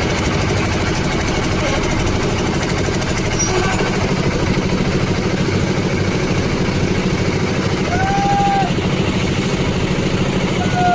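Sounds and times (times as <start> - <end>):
concrete mixer engine running: 0.0 - 10.9.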